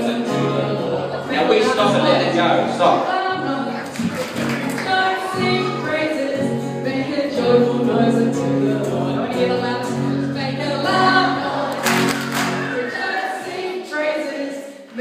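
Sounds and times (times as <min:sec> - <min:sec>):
congregation singing: 0:00.0 - 0:15.0.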